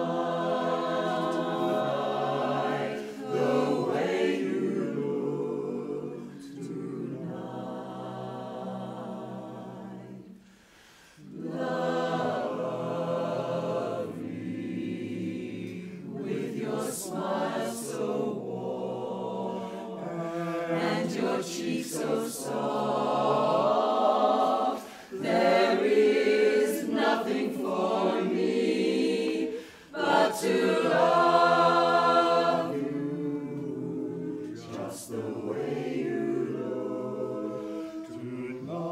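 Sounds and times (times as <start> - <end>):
choir singing in close harmony: 0.0 - 10.5, 11.2 - 38.9.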